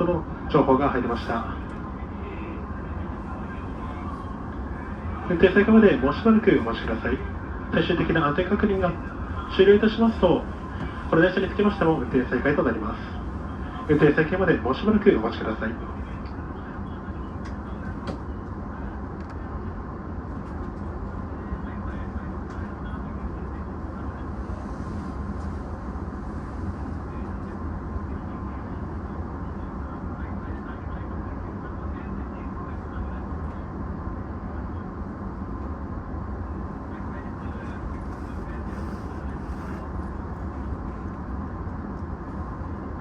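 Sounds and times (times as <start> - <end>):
electric train rumble and hum: 0.0 - 43.0.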